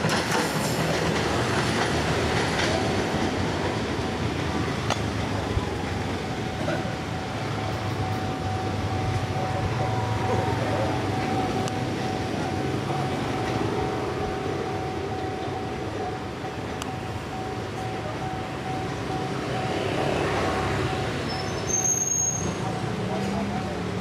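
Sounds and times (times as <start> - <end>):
train coaches rumbling: 0.0 - 24.0.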